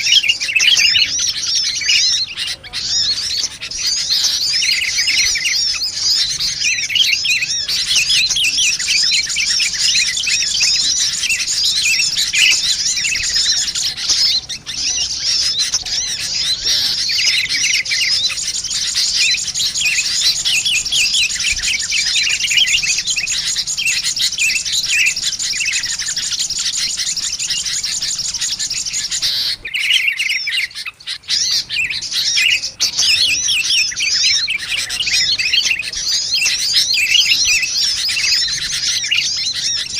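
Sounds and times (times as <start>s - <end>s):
small birds chirping and chattering: 0.0s - 39.9s.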